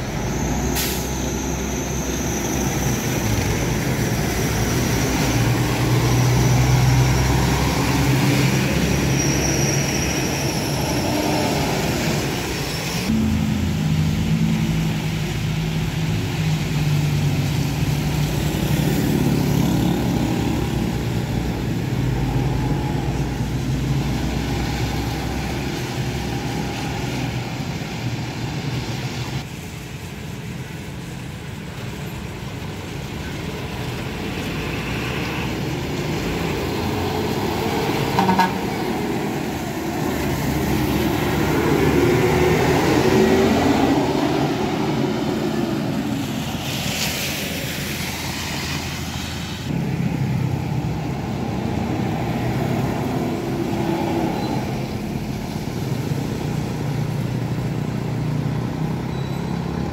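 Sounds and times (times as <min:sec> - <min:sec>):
bus engine passing: 0:00.0 - 0:59.9
tyres on wet road: 0:00.0 - 0:59.9.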